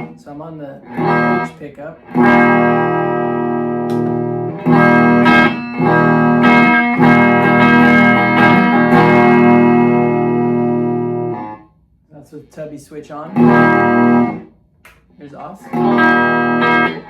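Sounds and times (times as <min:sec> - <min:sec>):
distorted electric guitar chords: 0:00.0 - 0:00.2, 0:00.8 - 0:11.8, 0:13.3 - 0:14.5, 0:15.5 - 0:17.0.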